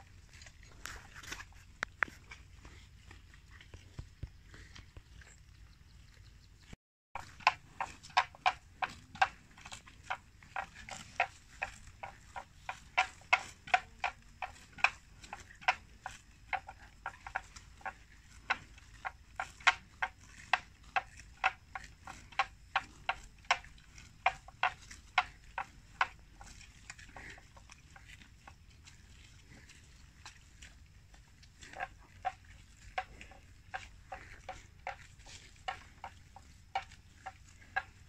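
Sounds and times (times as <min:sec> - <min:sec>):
water buffalo tearing grass: 0:07.2 - 0:38.0.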